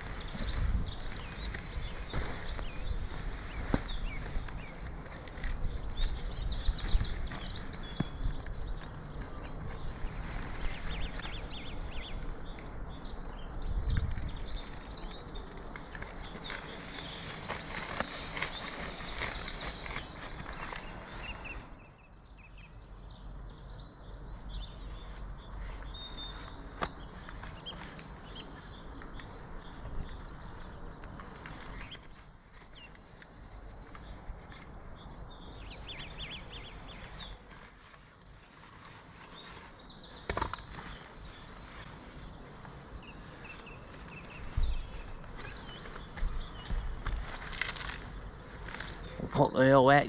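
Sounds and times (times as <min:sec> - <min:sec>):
birds chirping: 0:00.0 - 0:50.0
outdoor background noise: 0:00.0 - 0:50.0.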